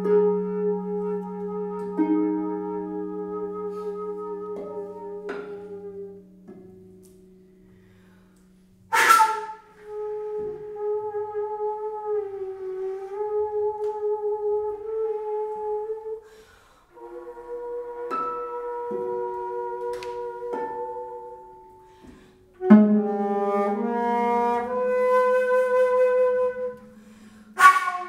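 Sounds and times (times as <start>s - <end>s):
flute playing slow classical music: 0.0s - 28.0s.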